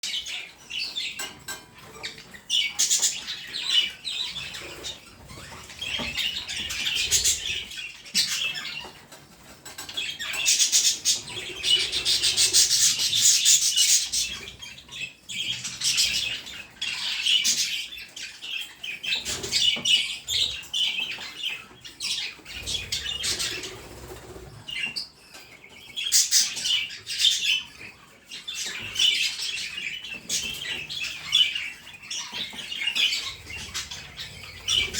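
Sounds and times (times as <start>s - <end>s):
budgerigars chattering: 0.0s - 9.1s, 9.7s - 34.9s.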